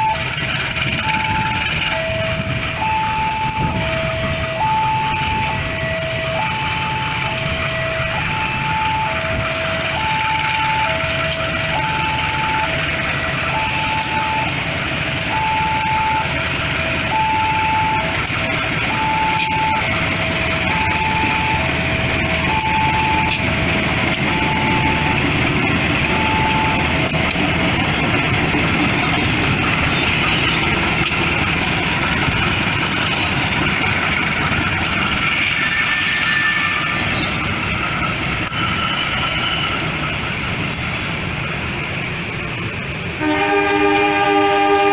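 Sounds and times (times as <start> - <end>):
level crossing alarm beeps: 0.0 - 41.6
train rumbling past: 0.0 - 44.9.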